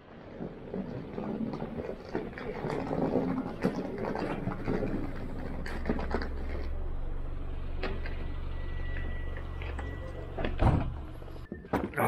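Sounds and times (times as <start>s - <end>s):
car engine idling: 0.5s - 11.5s.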